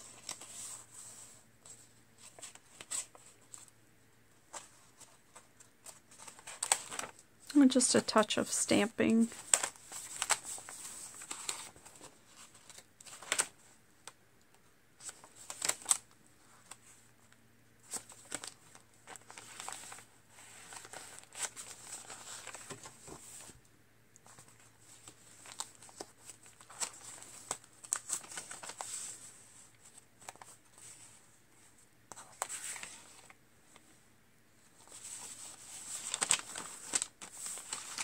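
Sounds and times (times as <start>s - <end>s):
paper pages rustling: 0.0s - 3.7s, 4.4s - 8.0s, 9.3s - 13.8s, 15.0s - 17.0s, 17.8s - 23.6s, 24.2s - 33.9s, 34.7s - 38.0s.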